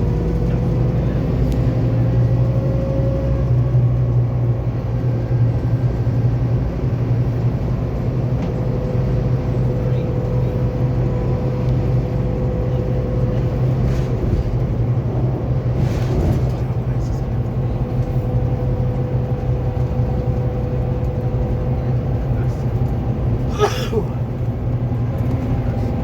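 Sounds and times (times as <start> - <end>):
bus engine drone: 0.0 - 26.0
road noise: 0.0 - 26.0.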